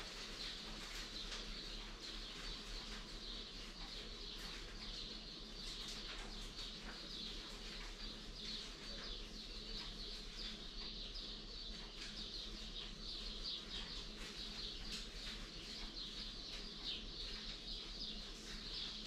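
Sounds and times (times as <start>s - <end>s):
many birds chirping: 0.0s - 19.0s.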